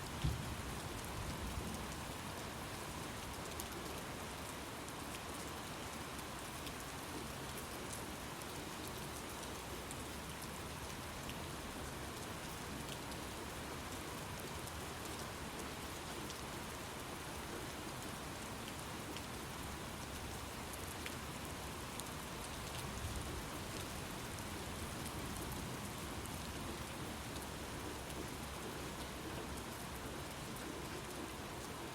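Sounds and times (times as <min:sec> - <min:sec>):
steady rain hissing: 0:00.0 - 0:31.9.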